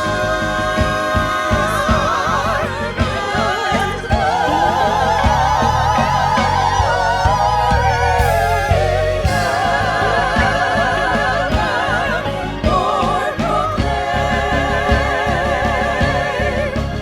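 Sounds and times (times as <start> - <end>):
instrumental accompaniment with bass: 0.0 - 17.0
voices singing with vibrato: 0.0 - 17.0.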